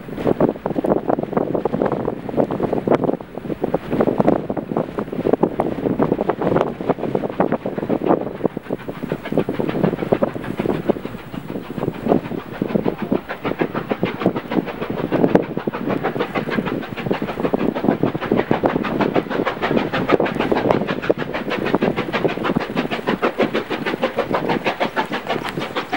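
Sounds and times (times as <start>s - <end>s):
steam locomotive running: 0.0s - 25.9s.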